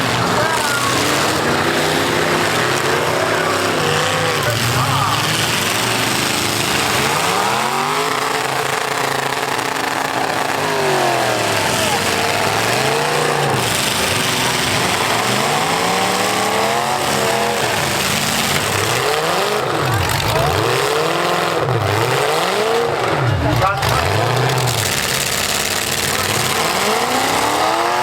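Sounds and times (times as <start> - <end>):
car engines revving hard: 0.0 - 28.0.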